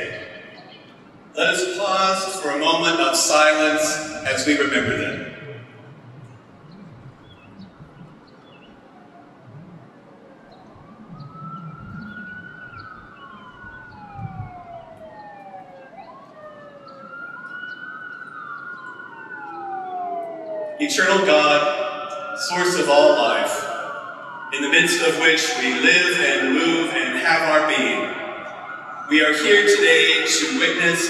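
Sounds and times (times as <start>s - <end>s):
emergency vehicle siren wailing: 0.0s - 31.0s.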